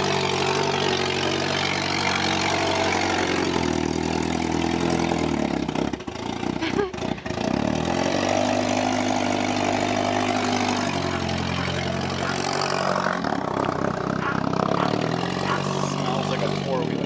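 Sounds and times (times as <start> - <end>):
small car engine running: 0.0 - 17.0.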